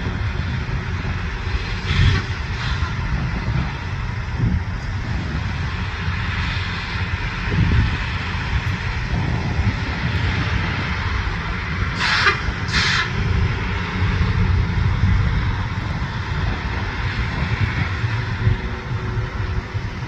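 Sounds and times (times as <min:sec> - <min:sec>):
low rumble: 0:00.0 - 0:20.0
rail grinder grinding: 0:00.0 - 0:20.0.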